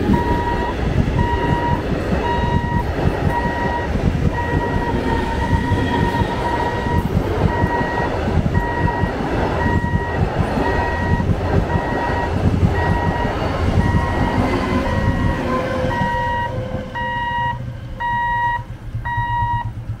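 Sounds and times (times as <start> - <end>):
level crossing warning beeper: 0.0 - 19.8
train rumbling and clattering past: 0.0 - 20.0.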